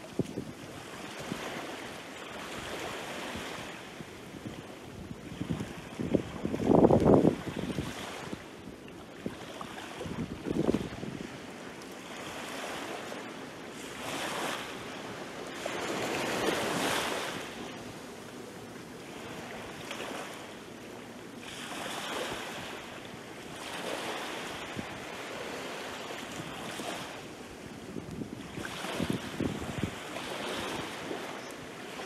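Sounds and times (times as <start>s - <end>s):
waves washing up beach: 0.0s - 32.0s.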